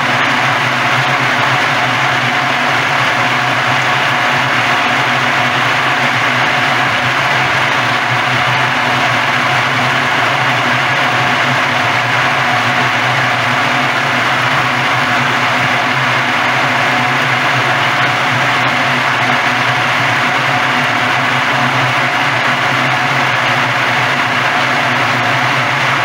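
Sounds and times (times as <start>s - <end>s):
hulling machine motor hum: 0.0s - 26.0s.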